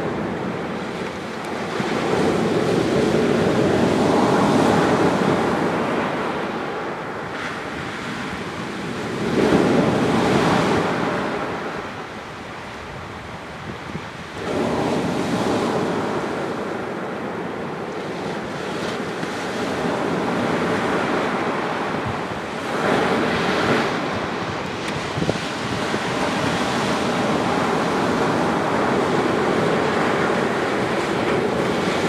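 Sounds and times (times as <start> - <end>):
sea waves breaking on beach: 0.0 - 32.0.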